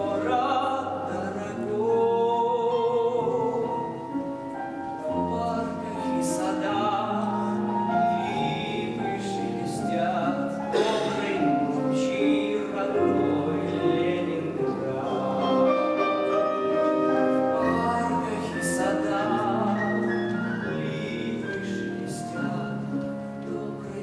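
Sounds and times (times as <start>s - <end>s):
classical singing: 0.0s - 24.0s
piano accompaniment: 0.0s - 24.0s.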